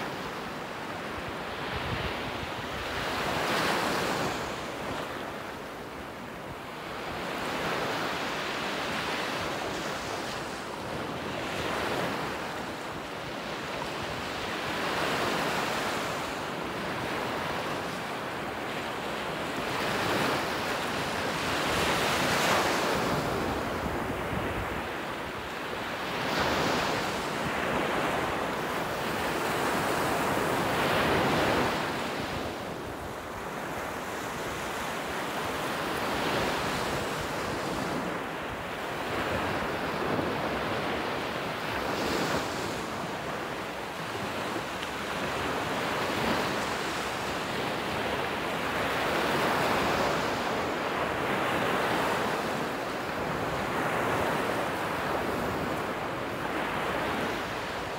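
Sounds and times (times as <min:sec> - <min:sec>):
surf waves breaking on beach: 0:00.0 - 0:57.9.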